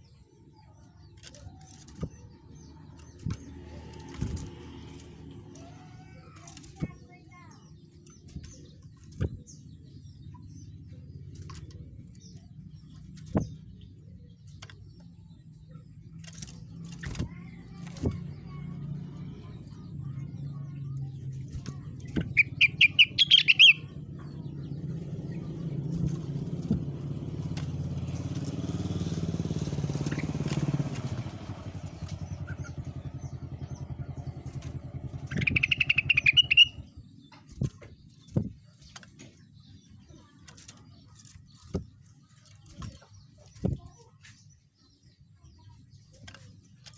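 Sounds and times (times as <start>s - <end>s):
songbird rapid high chirps: 0.0s - 46.9s
passing motor vehicle rumble: 0.8s - 44.4s.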